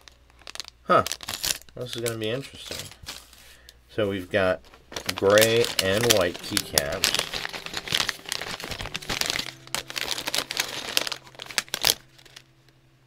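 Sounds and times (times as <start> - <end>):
foil and plastic bags crinkling: 0.0 - 12.7.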